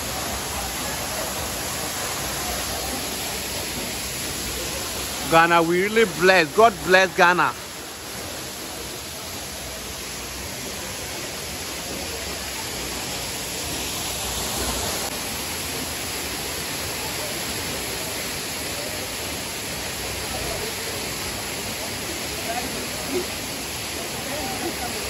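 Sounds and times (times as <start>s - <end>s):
stream running over rocks: 0.0s - 25.0s
waterfall rushing: 0.0s - 25.0s.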